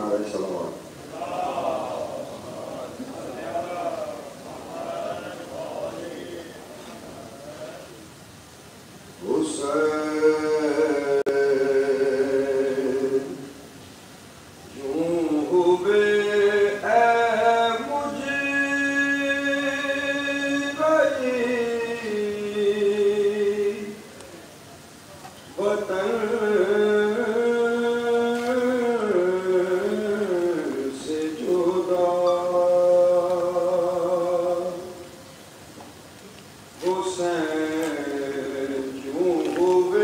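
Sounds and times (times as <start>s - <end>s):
man chanting: 0.0s - 8.0s, 9.2s - 13.5s, 14.7s - 24.1s, 25.6s - 35.1s, 36.8s - 40.0s.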